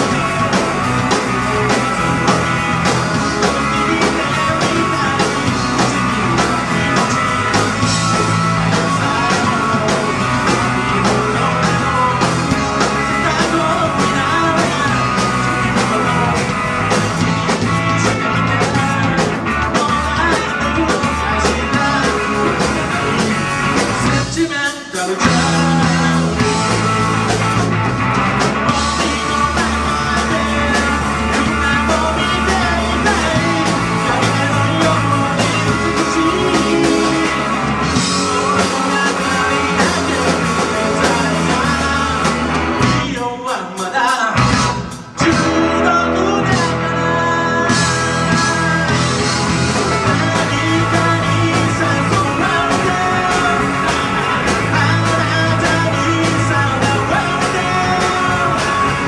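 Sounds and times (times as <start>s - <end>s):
lead vocal singing: 0.0s - 59.0s
live rock band playing: 0.0s - 59.0s.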